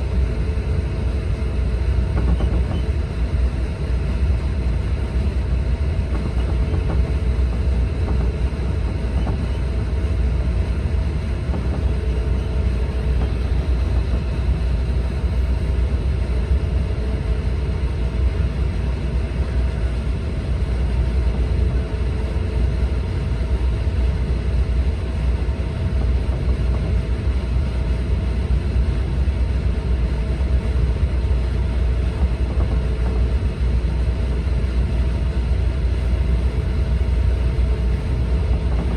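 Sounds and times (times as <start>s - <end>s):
faint steady whine: 0.0s - 38.9s
train cabin rumble: 0.0s - 38.9s.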